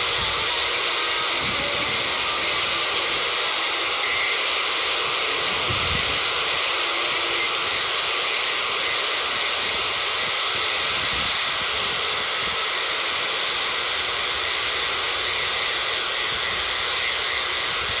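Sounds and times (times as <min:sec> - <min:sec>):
radio static hissing: 0:00.0 - 0:18.0.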